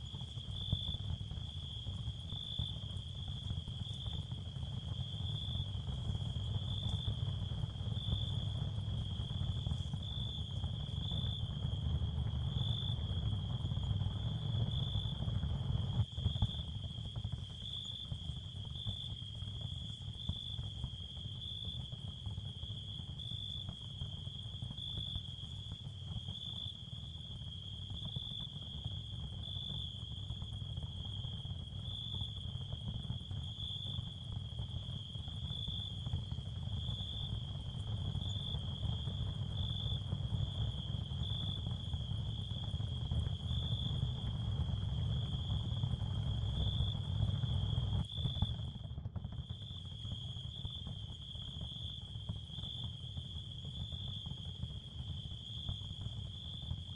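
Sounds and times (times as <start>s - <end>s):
crickets chirping: 0.0s - 56.9s.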